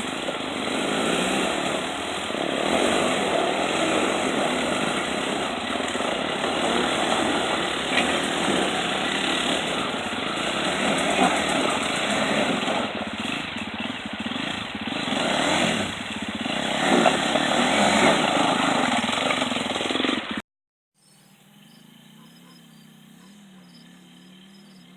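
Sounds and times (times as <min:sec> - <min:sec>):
motorcycle engine running: 0:00.0 - 0:20.4, 0:21.3 - 0:24.9.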